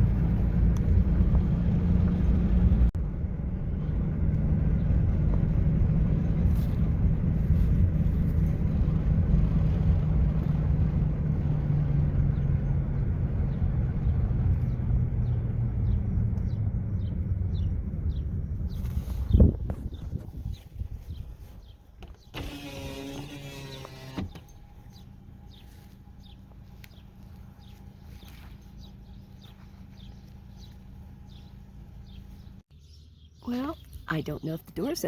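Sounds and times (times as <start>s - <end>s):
car engine and road hum: 0.0s - 35.0s.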